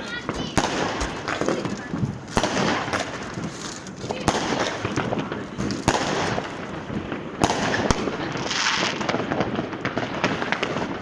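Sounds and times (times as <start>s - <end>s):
firecrackers crackling: 0.0s - 11.0s
firework bangs: 0.0s - 11.0s.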